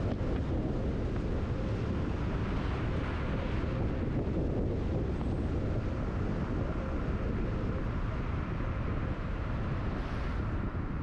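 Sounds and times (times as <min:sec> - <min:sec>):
car engine and road noise: 0:00.0 - 0:11.0
wind noise: 0:00.0 - 0:11.0.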